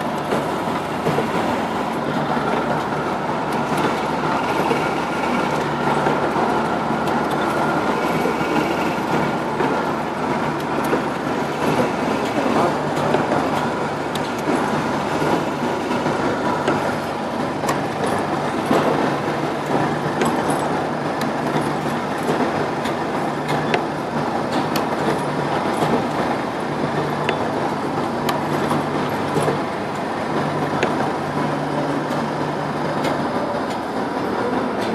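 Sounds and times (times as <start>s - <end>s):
low machine hum: 0.0s - 34.9s.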